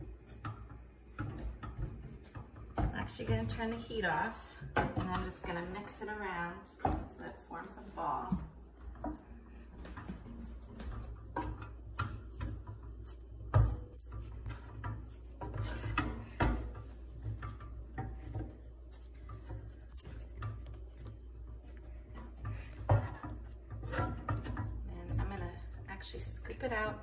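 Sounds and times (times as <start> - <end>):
wooden spoon scraping in saucepan: 0.0 - 27.0.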